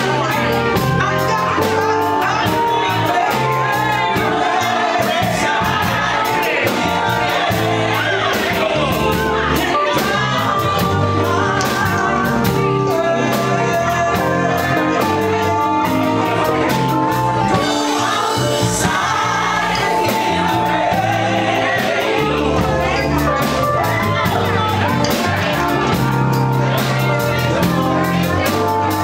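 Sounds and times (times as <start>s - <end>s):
live band playing: 0.0s - 29.0s
women singing: 0.0s - 29.0s.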